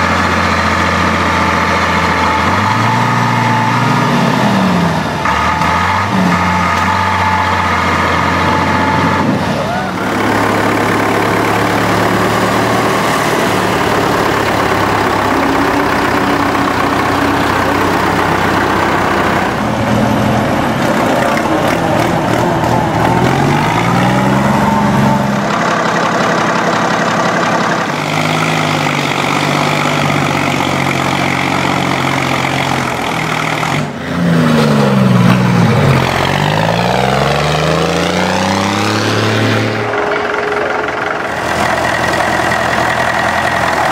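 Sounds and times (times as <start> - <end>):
tractor engines revving: 0.0 - 43.9.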